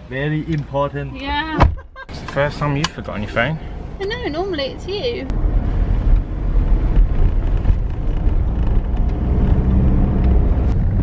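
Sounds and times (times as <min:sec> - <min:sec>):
road rumble: 0:00.0 - 0:11.0
car engine drone: 0:02.0 - 0:11.0.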